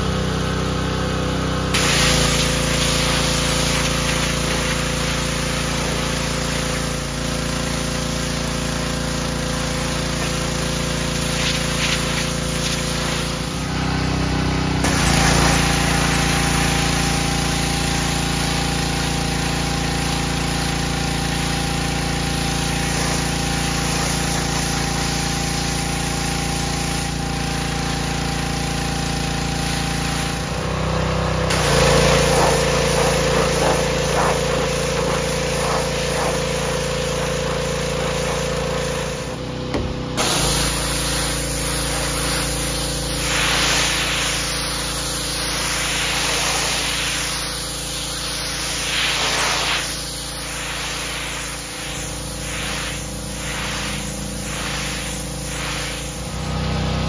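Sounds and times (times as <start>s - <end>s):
pressure washer spraying: 0.0s - 57.0s.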